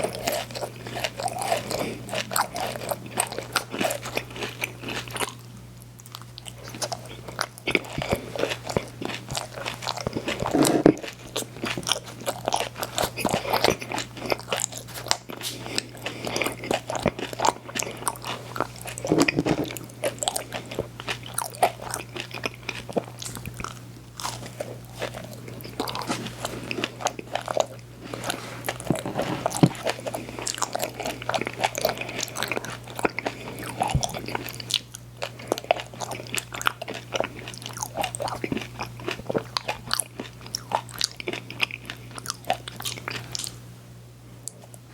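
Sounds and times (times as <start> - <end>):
crunchy bites and chewing: 0.0 - 43.6
low electrical hum: 0.0 - 44.9.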